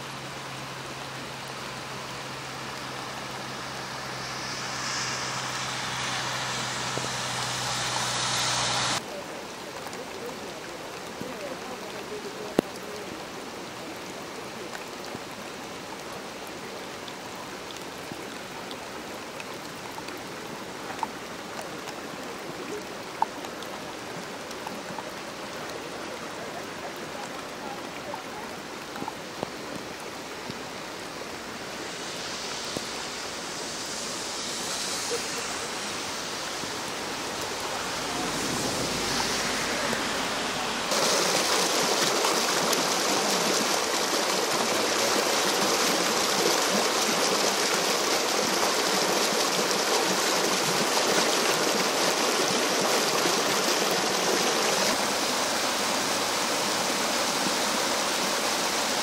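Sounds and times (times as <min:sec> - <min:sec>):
water rushing along a gutter: 0:00.0 - 0:59.0.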